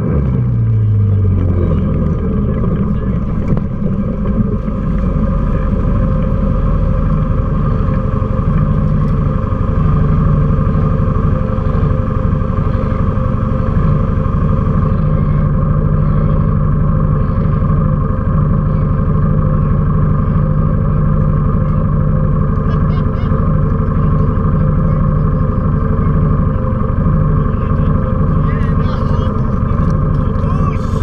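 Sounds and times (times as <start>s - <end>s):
quad bike engine idling: 0.0s - 31.0s.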